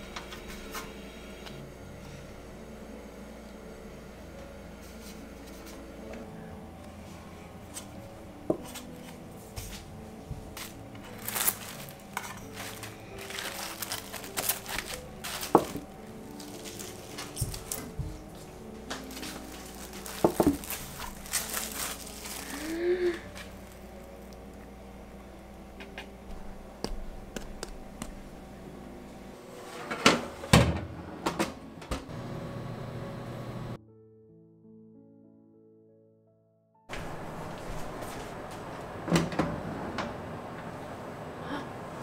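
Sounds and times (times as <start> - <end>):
soft background music: 0.0 - 41.7.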